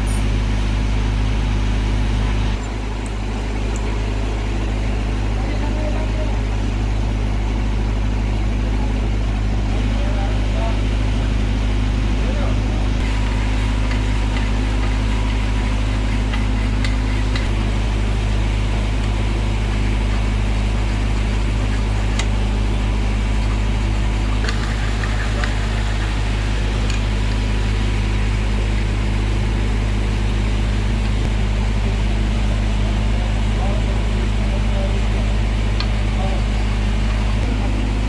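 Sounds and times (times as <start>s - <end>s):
heavy engine running: 0.0s - 38.0s.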